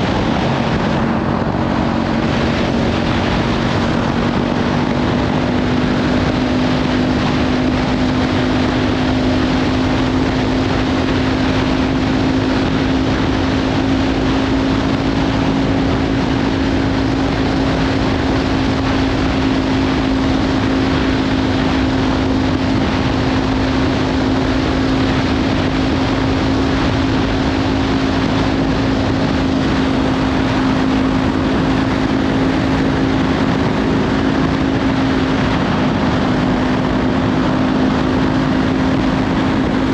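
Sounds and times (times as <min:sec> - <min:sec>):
motorcycle engine at steady revs: 0:00.0 - 0:39.9
wind noise on microphone: 0:00.0 - 0:39.9.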